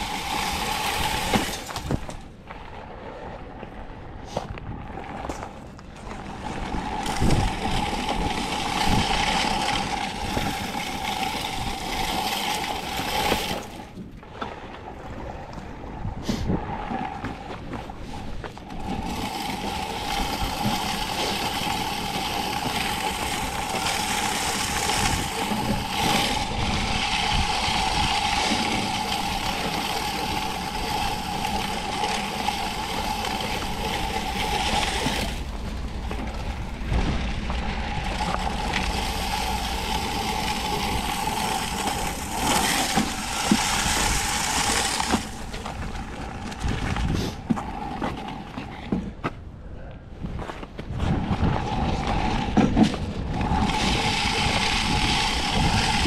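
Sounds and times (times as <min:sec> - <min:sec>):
spreader gear whine: 0:00.0 - 0:48.8, 0:51.2 - 0:56.0
wind rumble on microphone: 0:00.0 - 0:56.0.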